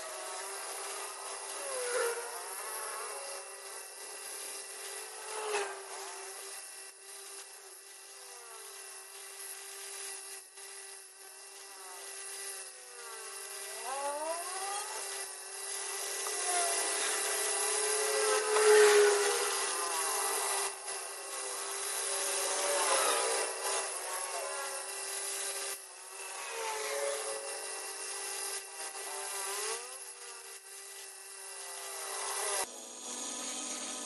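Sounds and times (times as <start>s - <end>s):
bench grinder humming: 0.0s - 34.0s.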